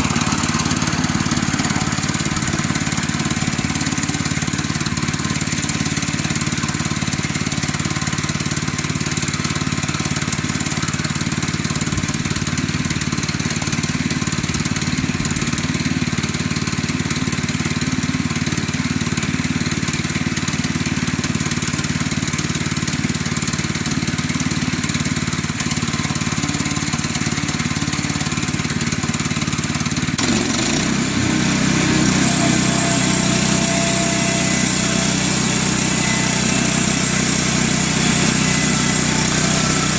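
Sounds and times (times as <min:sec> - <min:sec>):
saw cutting log whine: 0:00.0 - 0:16.6, 0:20.1 - 0:39.9
small gas engine running: 0:00.0 - 0:39.9.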